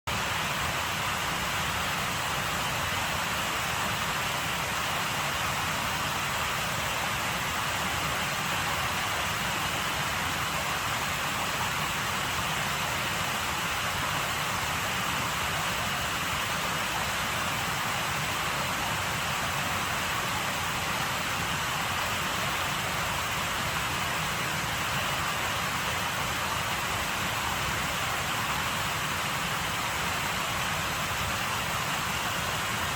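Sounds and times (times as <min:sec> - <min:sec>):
rushing water: 0:00.0 - 0:32.9.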